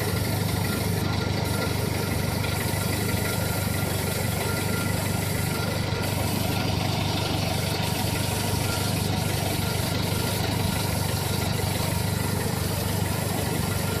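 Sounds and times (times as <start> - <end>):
car engine idling hum: 0.0 - 14.0
fuel pump whine: 0.0 - 14.0.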